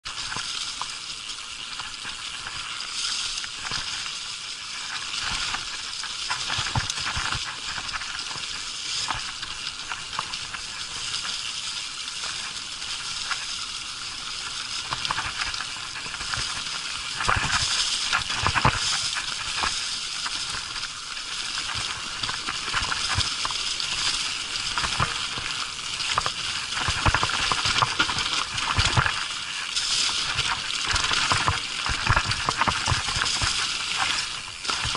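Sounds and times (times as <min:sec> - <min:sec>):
bike rattling on bumpy trail: 0:00.0 - 0:34.9
bike tyres rolling over dry leaves: 0:00.0 - 0:34.9.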